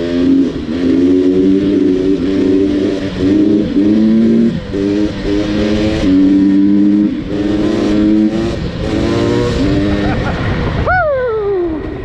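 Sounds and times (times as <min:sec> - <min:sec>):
two-stroke dirt bike accelerating: 0:00.0 - 0:10.9.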